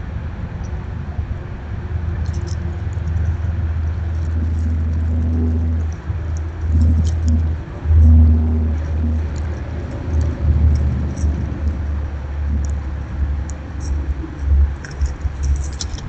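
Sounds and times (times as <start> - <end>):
road traffic rumble: 0.0 - 16.0
faint high ticks: 2.2 - 16.0.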